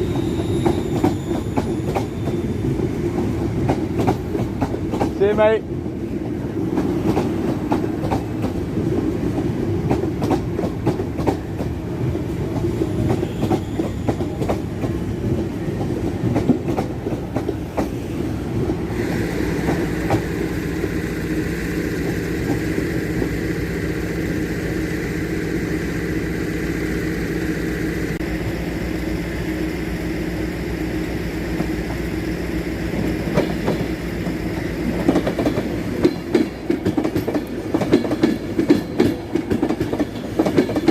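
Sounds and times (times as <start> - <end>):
train wheels clicking on rails: 0.0 - 28.2, 29.4 - 40.9.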